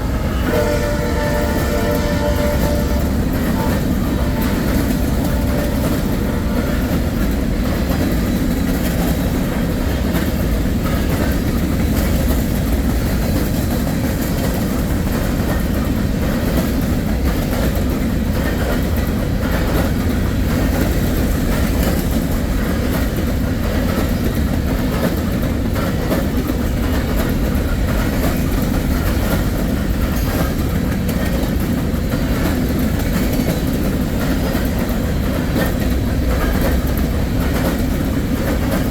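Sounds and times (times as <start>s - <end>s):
freight train rumbling past: 0.0s - 38.9s
wheels clicking over rail joints: 0.6s - 38.9s.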